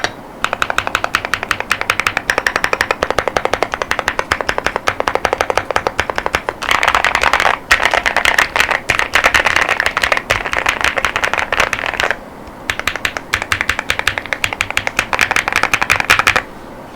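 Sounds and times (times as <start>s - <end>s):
mechanical keyboard typing: 0.0s - 16.5s.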